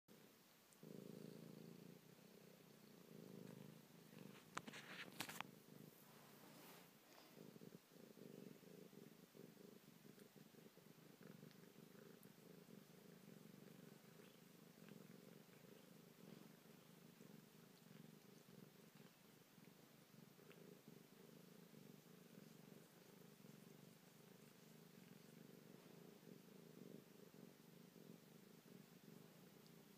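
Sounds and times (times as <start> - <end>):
cat purring: 0.1 - 29.9.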